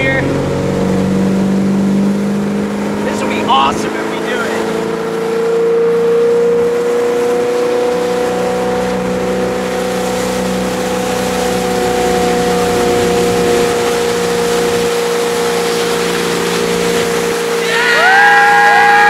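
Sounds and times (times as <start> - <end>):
boat engine whining: 0.0 - 19.0
wind and water rushing: 0.0 - 19.0.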